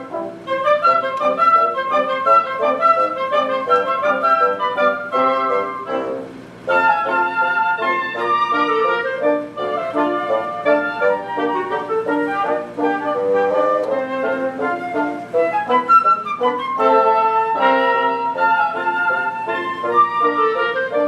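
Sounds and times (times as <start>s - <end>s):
flute playing short notes: 0.0s - 21.0s
orchestra playing: 0.0s - 21.0s.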